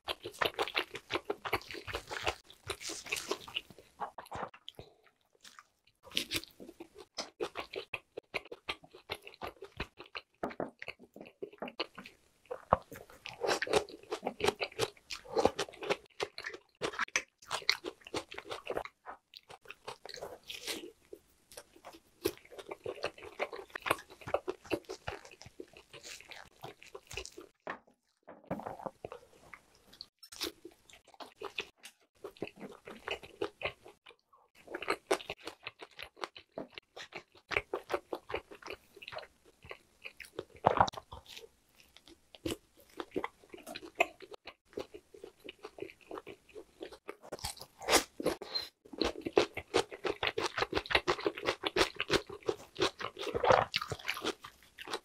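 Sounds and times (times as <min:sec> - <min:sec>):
close chewing and mouth smacks: 0:00.0 - 0:55.0.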